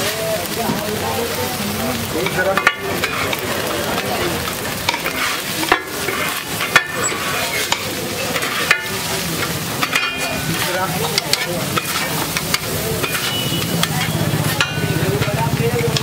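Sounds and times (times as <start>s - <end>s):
rice sizzling on griddle: 0.0s - 16.0s
metal spatulas scraping: 2.2s - 16.0s
spatula clanking on pan: 2.2s - 16.0s.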